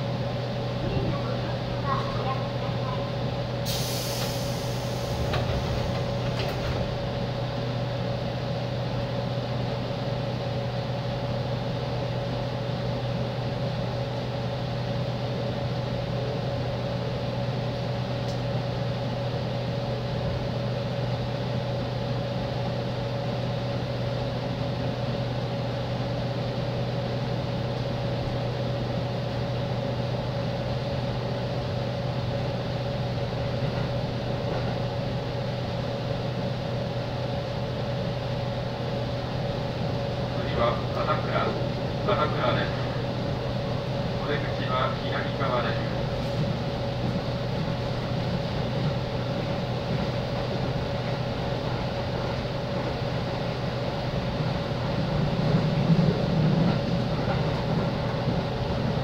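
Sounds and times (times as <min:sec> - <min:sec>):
train car hum: 0:00.0 - 0:59.0.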